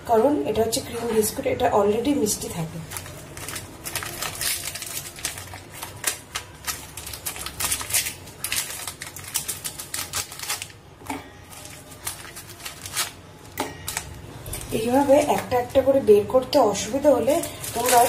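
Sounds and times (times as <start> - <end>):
plastic packet crinkling: 2.5 - 16.0, 16.8 - 18.0.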